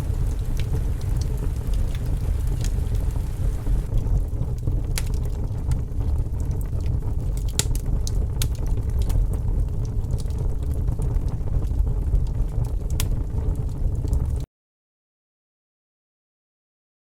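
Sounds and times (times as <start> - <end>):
fireplace crackling and popping: 0.0 - 14.5
low rumble of rain: 0.0 - 14.5.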